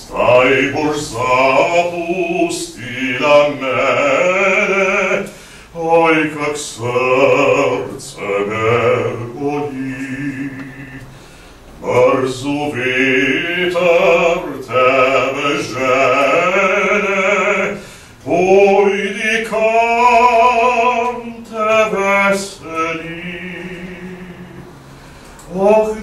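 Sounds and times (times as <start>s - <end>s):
man singing with vibrato: 0.0s - 26.0s.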